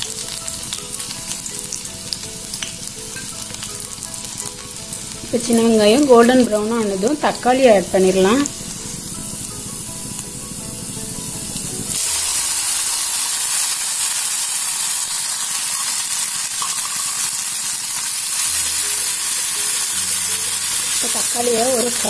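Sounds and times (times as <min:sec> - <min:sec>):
shallots frying in oil: 0:00.0 - 0:22.0
tomatoes sizzling in a pan: 0:00.0 - 0:22.0.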